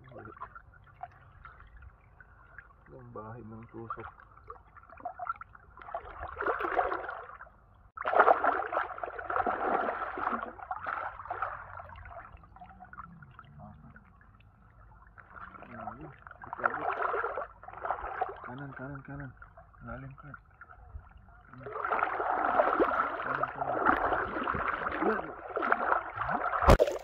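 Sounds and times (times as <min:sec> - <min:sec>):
seawater splashing and sloshing: 0:03.7 - 0:13.5, 0:15.0 - 0:27.0.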